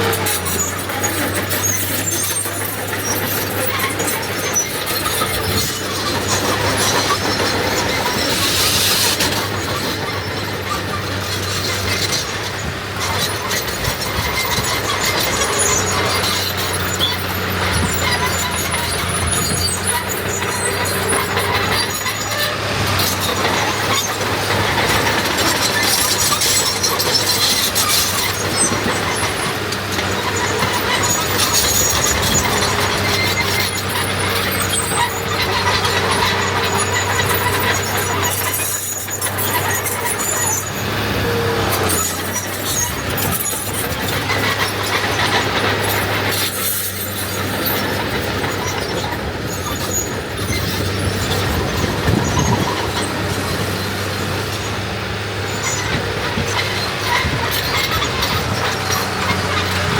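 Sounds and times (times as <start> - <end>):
diesel machinery engine hum: 0.0 - 59.9
high squeaks: 0.0 - 59.9.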